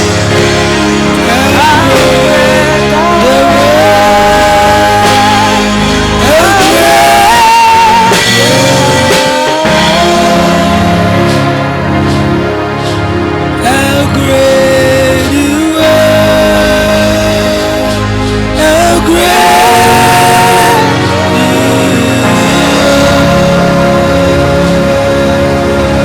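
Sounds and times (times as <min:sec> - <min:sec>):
band accompaniment: 0:00.0 - 0:26.0
lead melody with held notes: 0:00.0 - 0:26.0.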